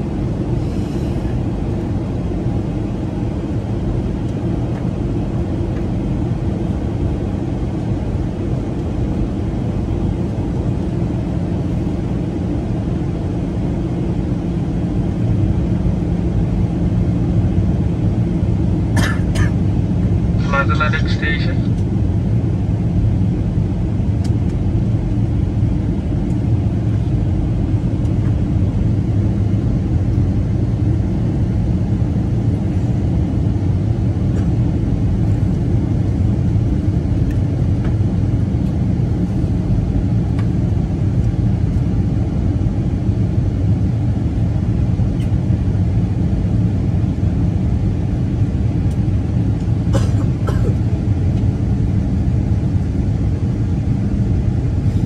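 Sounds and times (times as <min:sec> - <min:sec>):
airplane cabin engine and airflow rumble: 0:00.0 - 0:55.0.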